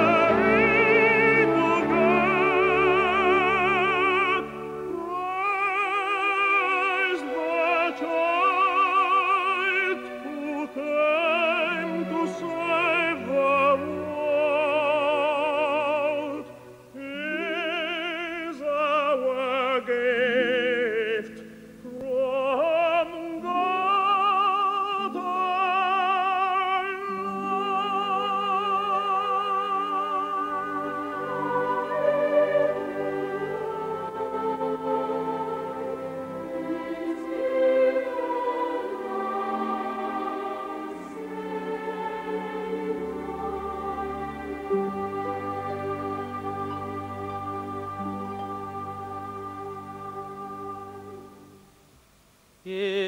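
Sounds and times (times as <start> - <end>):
operatic singing: 0.0 - 51.6
sustained musical accompaniment: 0.0 - 51.8.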